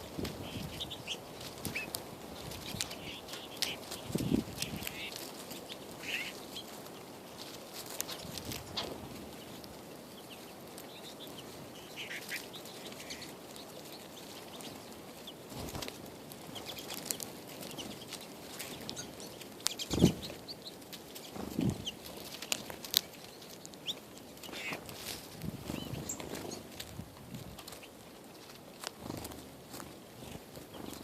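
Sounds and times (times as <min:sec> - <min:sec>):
birds chirping: 0:00.0 - 0:25.0, 0:25.6 - 0:26.8
fluttering wings: 0:00.1 - 0:31.0.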